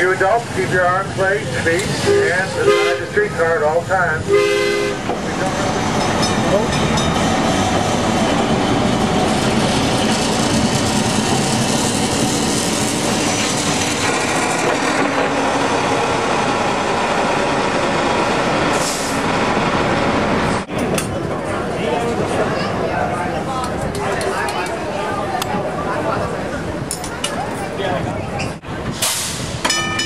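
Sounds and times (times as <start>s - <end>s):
streetcars rolling on rails: 0.0s - 30.0s.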